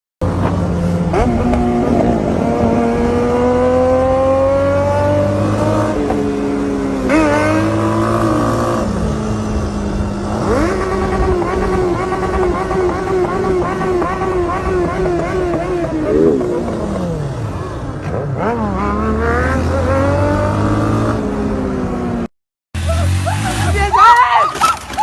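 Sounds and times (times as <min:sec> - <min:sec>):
engine revving: 0:00.2 - 0:23.9.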